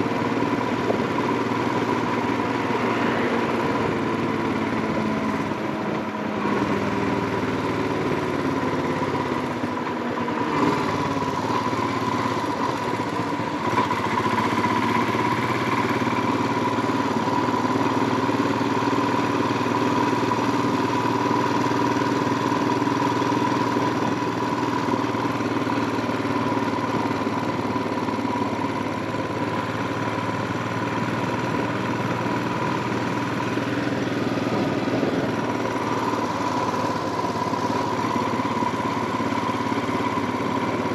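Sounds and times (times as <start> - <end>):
single-cylinder motorcycle engine running: 0.0 - 40.9.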